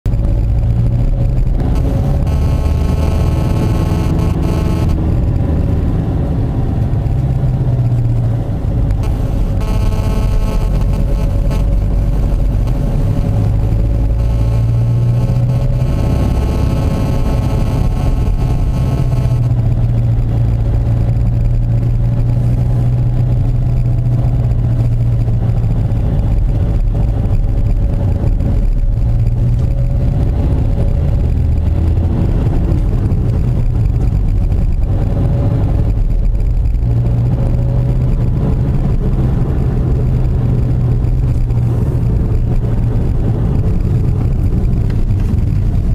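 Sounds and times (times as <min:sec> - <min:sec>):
car engine and tyre drone: 0:00.0 - 0:45.9.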